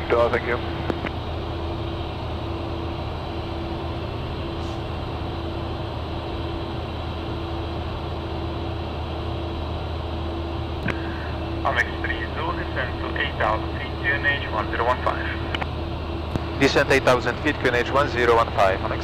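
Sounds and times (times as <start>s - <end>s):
jet engine hum: 0.0s - 19.0s.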